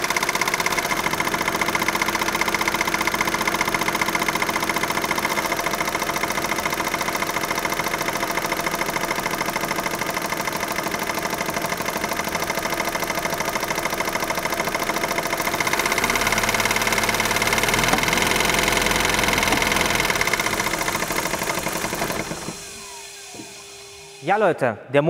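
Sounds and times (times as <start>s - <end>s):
car engine idling with ticking clatter: 0.0s - 23.3s.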